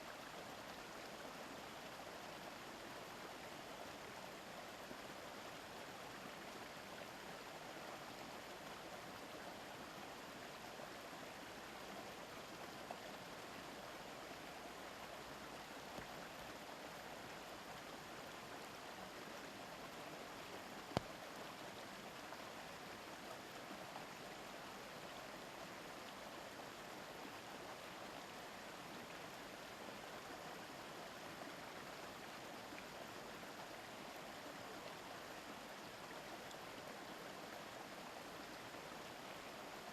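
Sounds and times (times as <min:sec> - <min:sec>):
river murmuring over stones: 0:00.0 - 0:39.9.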